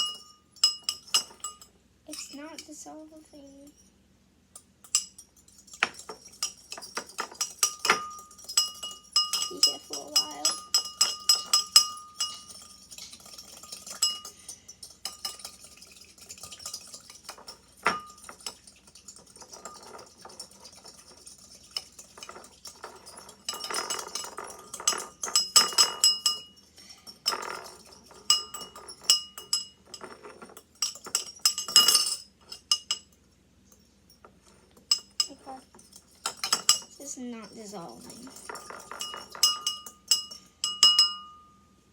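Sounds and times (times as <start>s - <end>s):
fork clinking against a bowl: 0.0s - 2.7s, 4.6s - 41.6s.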